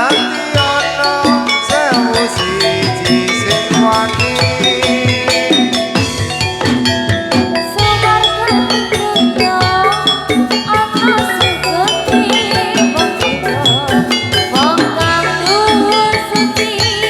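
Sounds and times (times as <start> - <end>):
drums: 0.0 - 17.0
metallophone percussion: 0.0 - 17.0
ornamented melody: 0.0 - 17.0.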